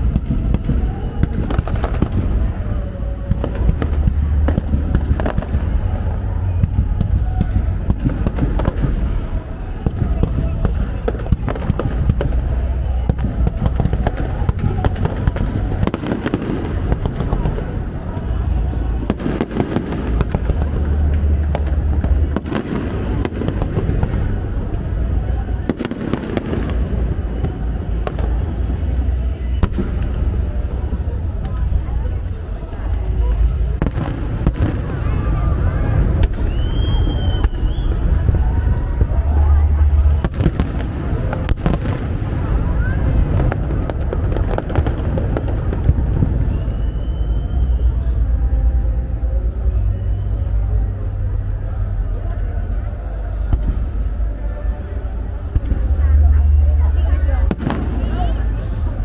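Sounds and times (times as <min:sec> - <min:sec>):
deep steady rumble: 0:00.0 - 0:59.0
fireworks bangs and crackles: 0:00.0 - 0:59.0.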